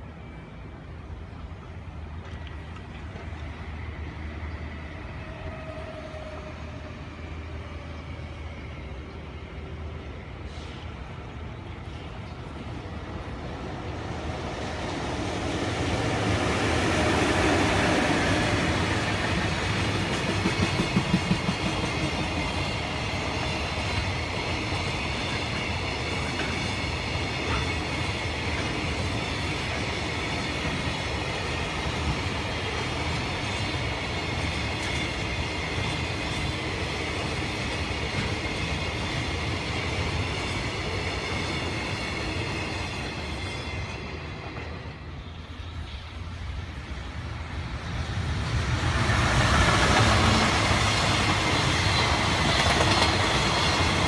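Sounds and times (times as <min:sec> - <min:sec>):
electric locomotive passing: 0:00.0 - 0:54.0.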